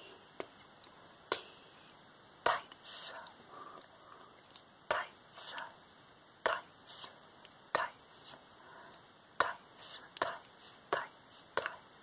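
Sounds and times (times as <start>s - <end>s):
soft breathy whisper: 1.3s - 5.8s, 6.4s - 12.0s.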